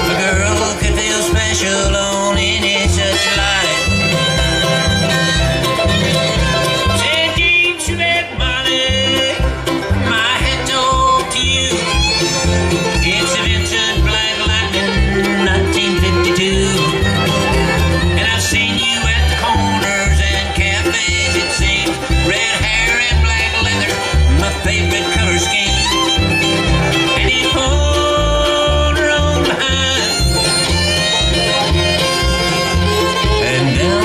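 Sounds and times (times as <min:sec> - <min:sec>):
banjo: 0:00.0 - 0:34.0
bluegrass band playing: 0:00.0 - 0:34.0
fiddle: 0:00.0 - 0:34.0.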